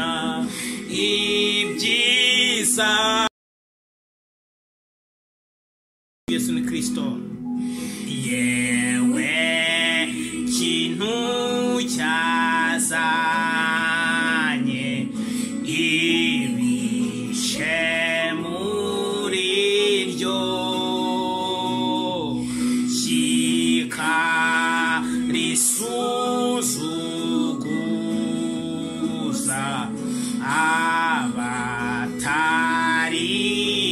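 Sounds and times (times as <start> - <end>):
unaccompanied gospel singing: 0.0 - 3.3, 7.9 - 33.9.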